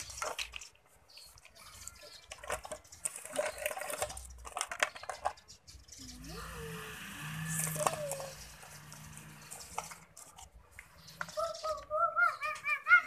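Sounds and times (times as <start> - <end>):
plastic toys clicking and knocking: 0.0 - 6.2, 7.4 - 12.8.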